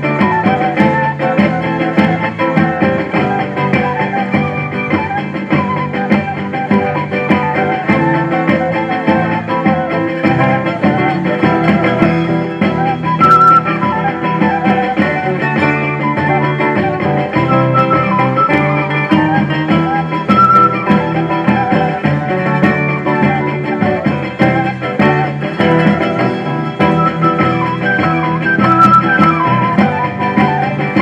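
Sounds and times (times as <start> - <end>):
drum kit beat: 0.0 - 31.0
flute melody: 0.0 - 31.0
small plucked string instrument: 0.0 - 31.0
strummed guitars: 0.0 - 31.0.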